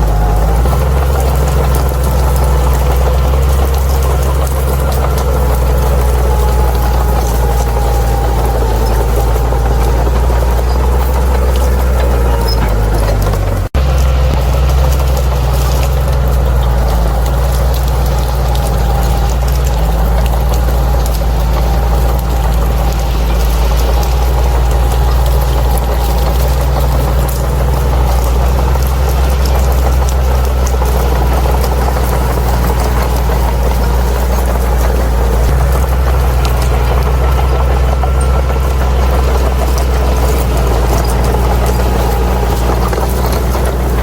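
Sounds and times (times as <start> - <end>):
bulldozer diesel engine rumbling: 0.0 - 44.0.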